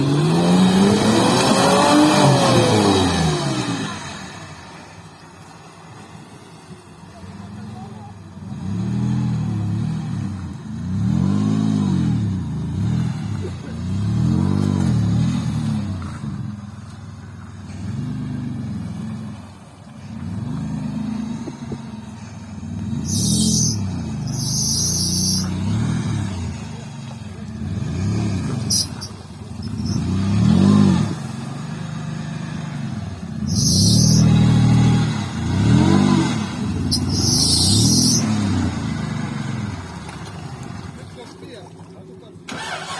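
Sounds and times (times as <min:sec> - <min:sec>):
vehicle engine revving: 0:00.0 - 0:04.7, 0:07.2 - 0:41.2, 0:42.4 - 0:42.9.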